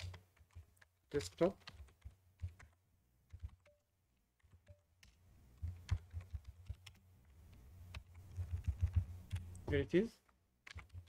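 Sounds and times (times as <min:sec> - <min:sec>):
typing on computer keyboard: 0:00.0 - 0:09.6, 0:10.2 - 0:11.0.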